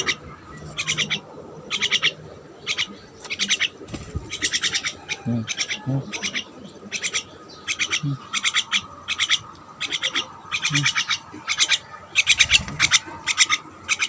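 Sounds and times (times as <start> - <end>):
pet birds chirping: 0.0 - 14.0.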